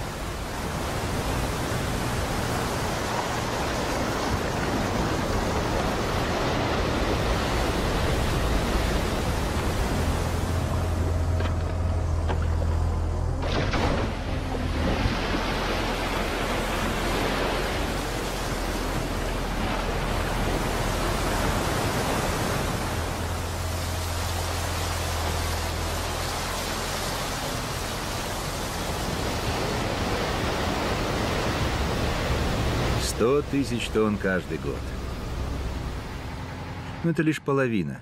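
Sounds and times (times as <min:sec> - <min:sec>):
low machine hum: 0:03.0 - 0:33.6, 0:34.4 - 0:37.4.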